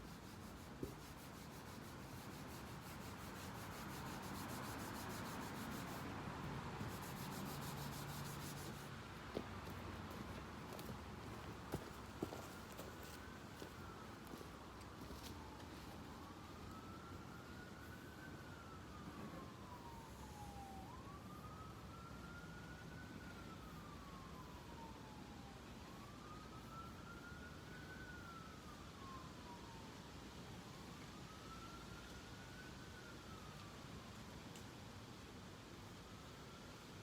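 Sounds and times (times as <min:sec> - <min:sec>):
steady background hiss: 0:00.0 - 0:37.0
emergency vehicle siren wailing: 0:01.4 - 0:08.9, 0:11.8 - 0:34.5.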